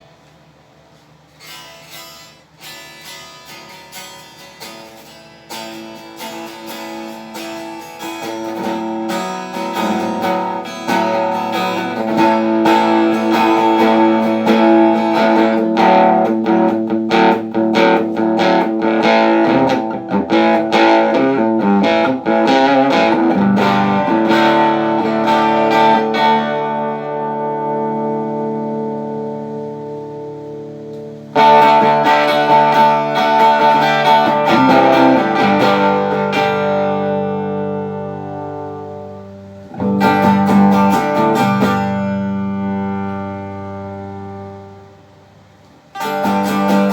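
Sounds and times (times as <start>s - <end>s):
electric guitar playing: 0.9s - 46.9s.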